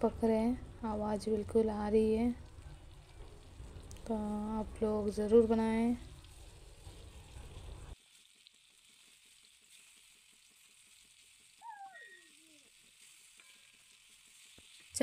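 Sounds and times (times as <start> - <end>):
food sizzling in hot oil: 0.2 - 15.0.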